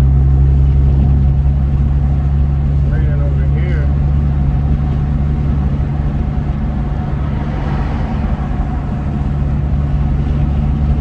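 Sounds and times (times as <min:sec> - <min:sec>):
car engine drone: 0:00.0 - 0:11.0
road noise inside car: 0:00.0 - 0:11.0.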